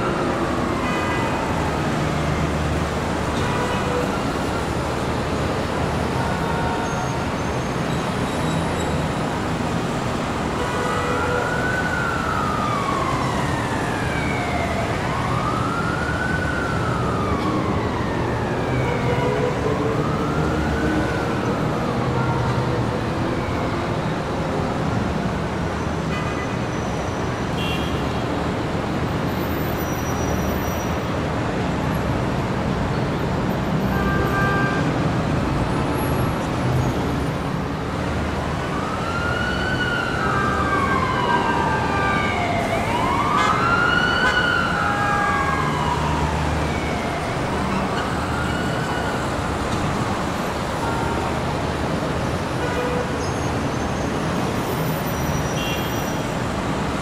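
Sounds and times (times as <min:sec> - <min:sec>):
emergency siren wailing: 0:00.0 - 0:25.7, 0:27.5 - 0:57.0
city street traffic: 0:00.0 - 0:57.0.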